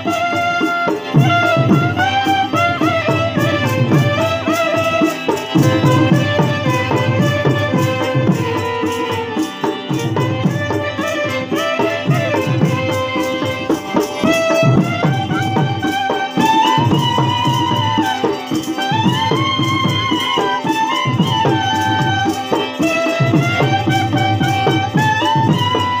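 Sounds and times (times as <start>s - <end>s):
hand-drum beat: 0.0s - 26.0s
stringed instrument melody: 0.0s - 26.0s.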